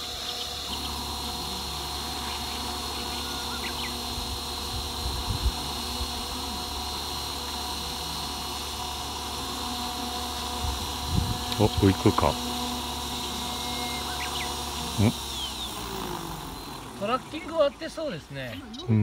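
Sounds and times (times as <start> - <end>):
rc helicopter motor whine: 0.0 - 19.0.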